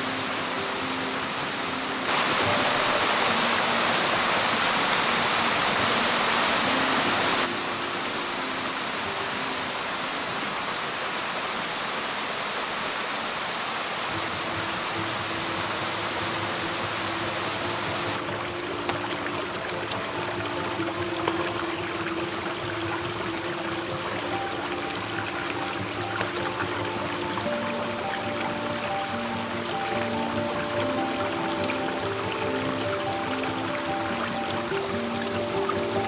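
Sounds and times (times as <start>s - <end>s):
soft background music: 0.0s - 11.4s, 14.0s - 36.0s
mountain stream rushing: 0.0s - 36.0s.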